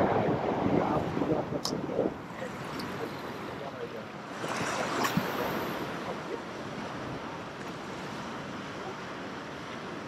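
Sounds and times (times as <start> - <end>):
waves washing against rocks: 0.0 - 10.0.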